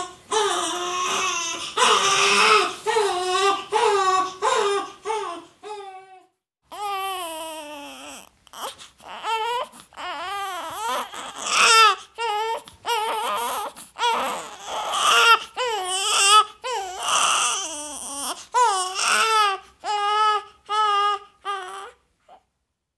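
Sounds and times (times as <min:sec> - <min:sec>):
baby crying: 0:00.0 - 0:22.5.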